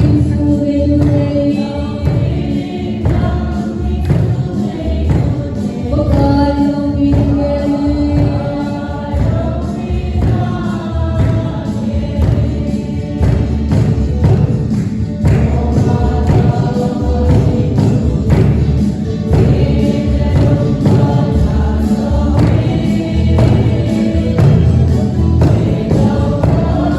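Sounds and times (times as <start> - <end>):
choir singing held notes: 0.0 - 26.9
steady low beat: 0.0 - 26.9.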